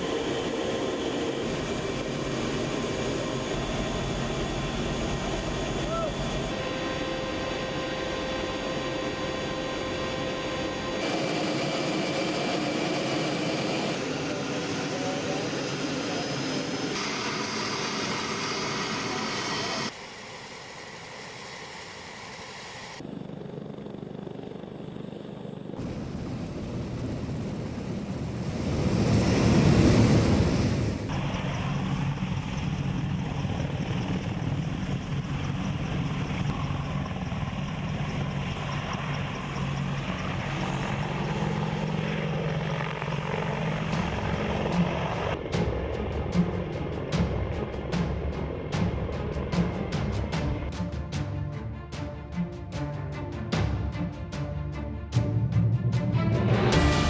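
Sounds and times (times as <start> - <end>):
helicopter turbine and rotor: 0.0 - 57.0.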